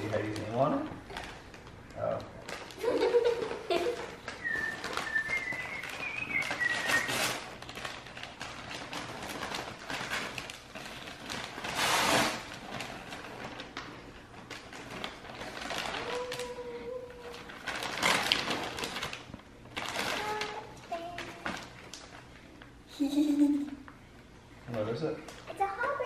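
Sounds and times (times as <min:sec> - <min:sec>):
wrapping paper ripping: 0:00.0 - 0:22.6
wrapping paper crinkling: 0:00.0 - 0:23.9.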